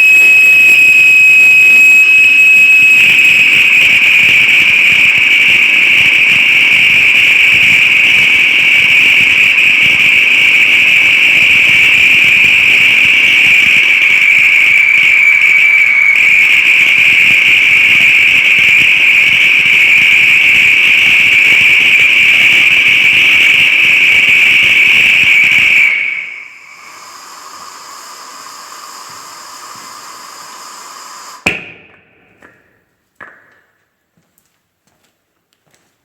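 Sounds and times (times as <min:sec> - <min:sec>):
rushing hiss of combustion: 0:00.0 - 0:31.6
rocket engine high whistle: 0:00.0 - 0:31.7.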